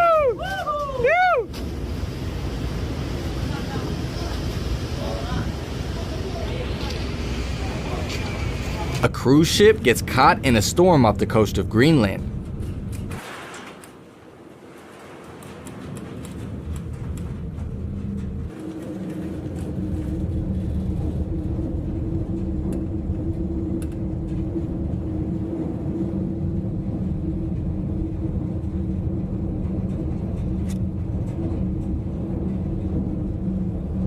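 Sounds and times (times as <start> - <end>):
ship rumble and hum: 0.0 - 34.0.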